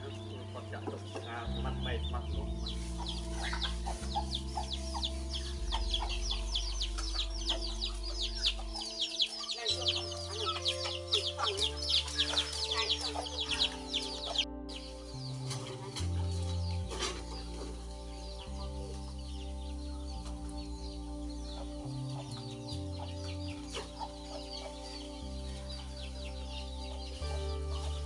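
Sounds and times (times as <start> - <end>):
background music with low notes: 0.0 - 28.0
small birds chirping rapidly: 0.0 - 28.0.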